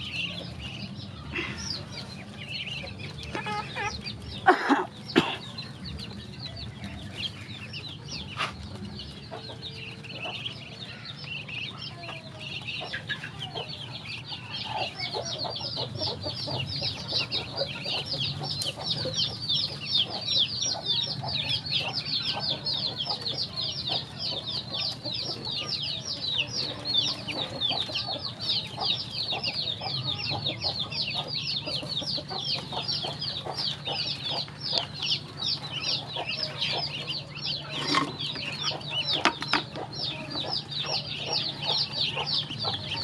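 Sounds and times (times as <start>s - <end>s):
ducklings peeping: 0.0s - 43.0s.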